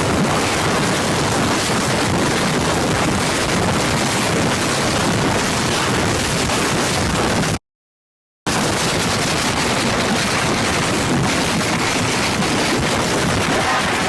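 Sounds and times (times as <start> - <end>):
loud steady rushing noise: 0.0 - 7.6, 8.5 - 14.0.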